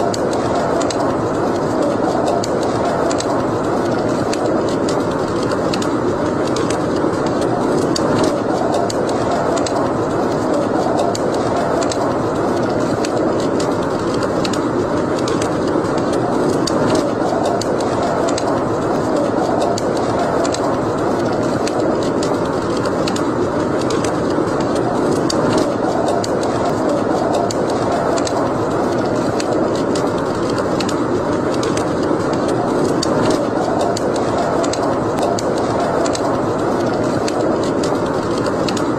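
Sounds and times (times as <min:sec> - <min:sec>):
fire rushing noise: 0:00.0 - 0:38.9
wood fire crackling and popping: 0:00.0 - 0:38.9.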